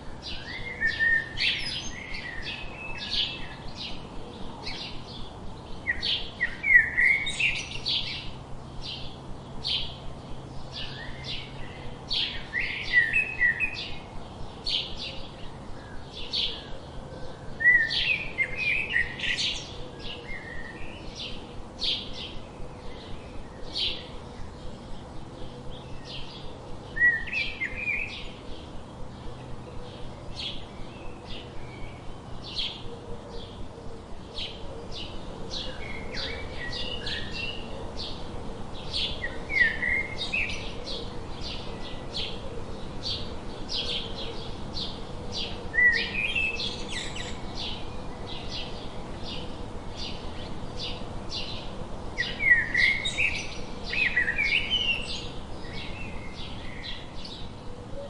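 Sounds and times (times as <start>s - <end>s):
songbirds chipping: 0.0s - 58.0s.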